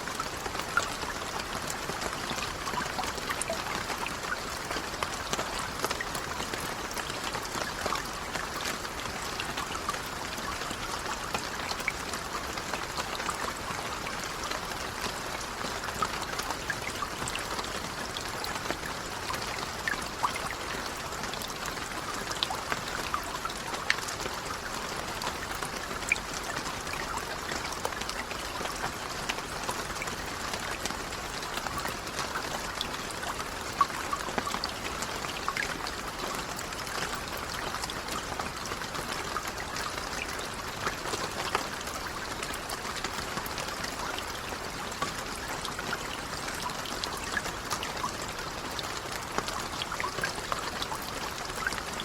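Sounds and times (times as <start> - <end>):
light rain pattering: 0.0 - 52.0.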